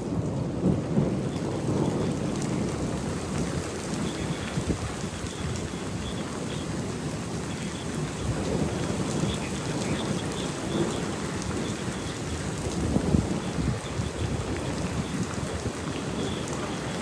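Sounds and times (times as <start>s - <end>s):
low rumble of thunder: 0.0s - 17.0s
steady rain falling: 0.0s - 17.0s.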